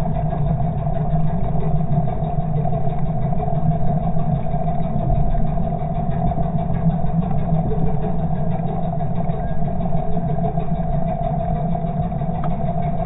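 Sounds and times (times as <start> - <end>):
outboard motor hum underwater: 0.0 - 13.0.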